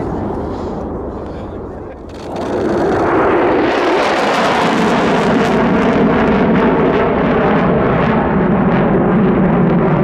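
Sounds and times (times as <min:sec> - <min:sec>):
fighter jets climbing at high power: 0:00.0 - 0:10.0.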